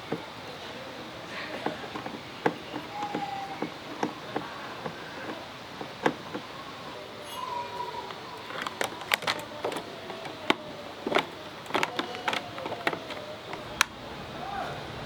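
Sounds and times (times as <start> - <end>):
hand tools clicking and knocking: 0.0 - 13.9.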